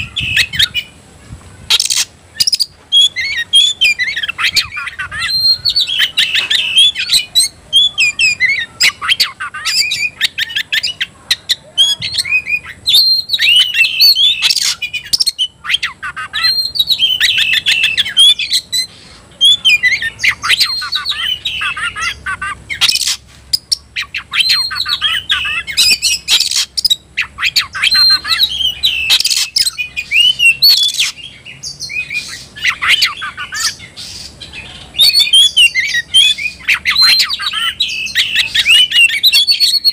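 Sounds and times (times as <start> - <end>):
bird singing whistles and chatter: 0.0 - 1.0, 1.7 - 39.9.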